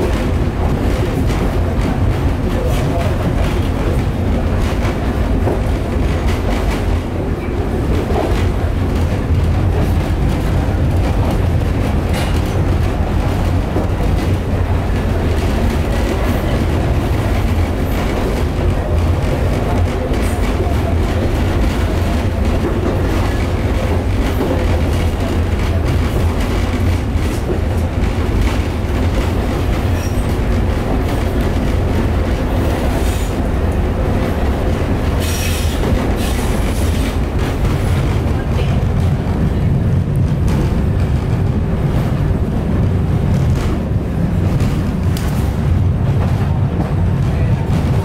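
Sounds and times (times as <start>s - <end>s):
wheels rumbling on rails: 0.0s - 48.0s.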